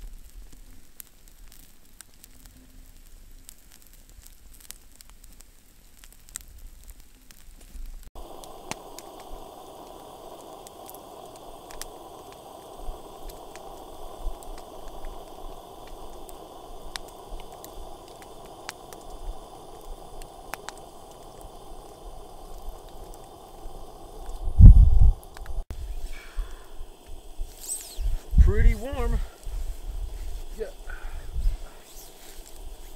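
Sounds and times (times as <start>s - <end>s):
campfire crackling and hissing: 0.0s - 32.9s.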